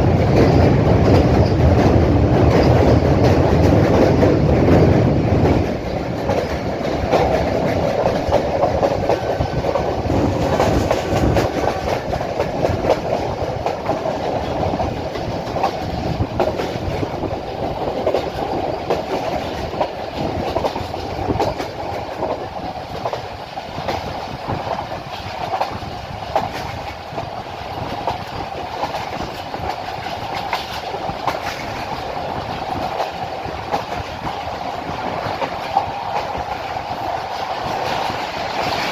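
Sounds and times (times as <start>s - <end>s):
train rumble: 0.0s - 38.9s
wheels clattering over rail joints: 0.0s - 38.9s.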